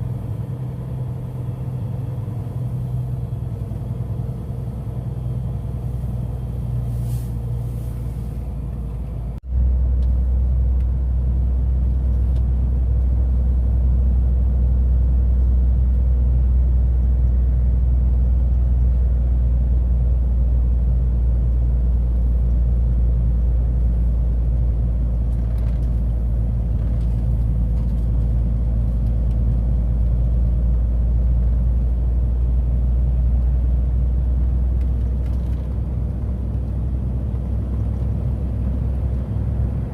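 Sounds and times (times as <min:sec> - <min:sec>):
heavy truck engine rumble: 0:00.0 - 0:39.9.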